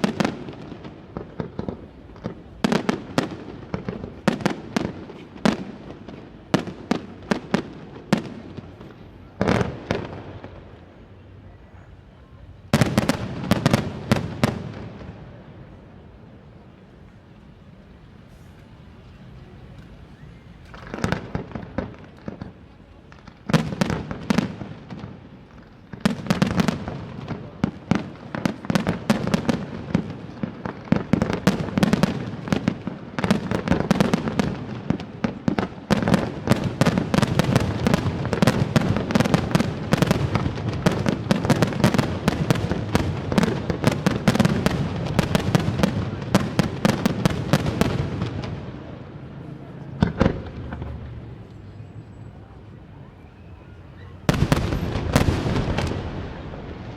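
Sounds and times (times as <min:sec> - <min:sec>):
fireworks exploding: 0:00.0 - 0:11.9, 0:12.5 - 0:56.9.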